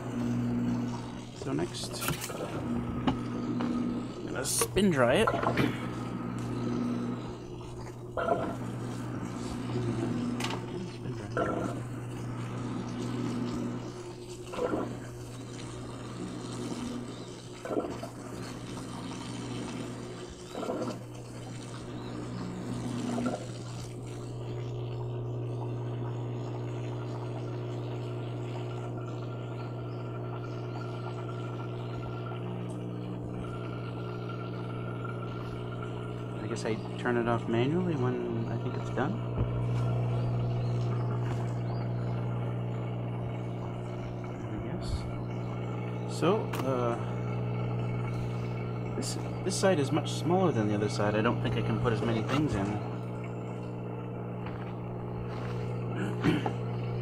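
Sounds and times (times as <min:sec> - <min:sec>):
washing machine motor hum: 0:00.0 - 0:57.0
water moving in tub: 0:00.0 - 0:57.0.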